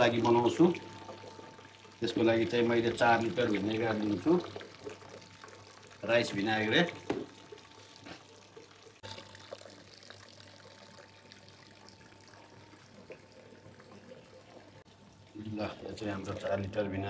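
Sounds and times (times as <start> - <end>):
liquid trickling into container: 0.0 - 17.0.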